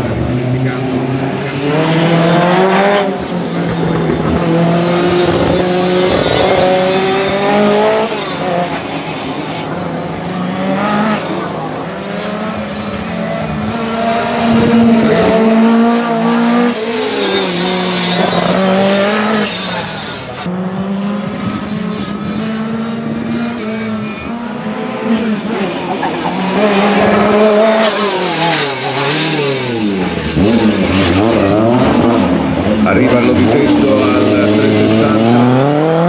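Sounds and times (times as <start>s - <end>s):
car engine revving hard: 0.0s - 36.0s.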